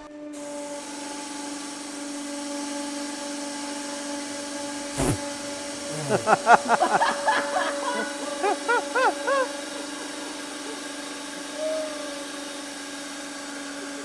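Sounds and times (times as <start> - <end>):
hydraulic press humming: 0.0 - 14.0.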